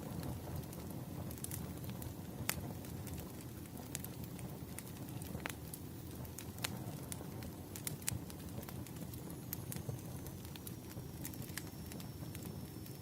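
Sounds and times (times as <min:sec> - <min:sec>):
fire crackling with pops: 0:00.0 - 0:13.0.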